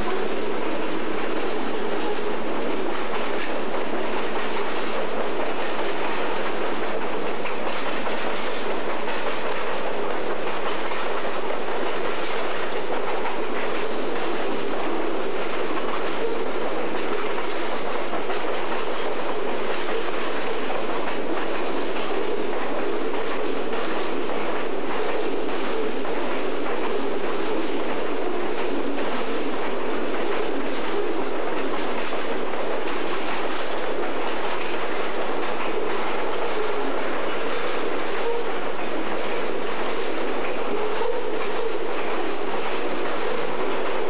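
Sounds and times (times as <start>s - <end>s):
freight train wheels on rail: 0.0s - 44.0s.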